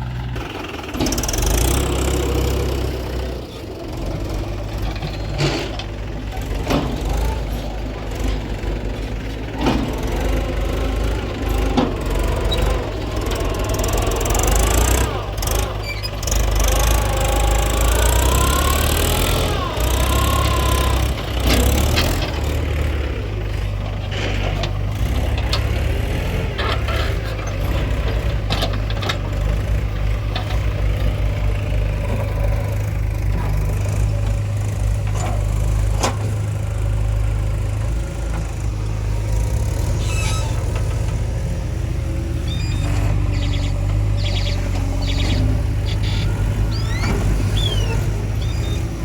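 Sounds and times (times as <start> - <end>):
diesel backhoe loader running: 0.0 - 49.0.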